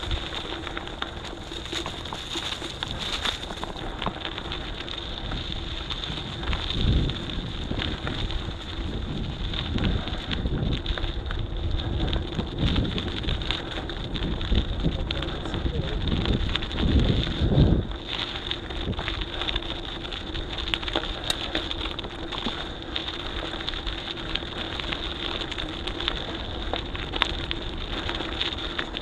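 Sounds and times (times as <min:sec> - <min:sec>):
bicycle rolling over road: 0:00.0 - 0:29.0
wind buffeting microphone: 0:00.0 - 0:29.0.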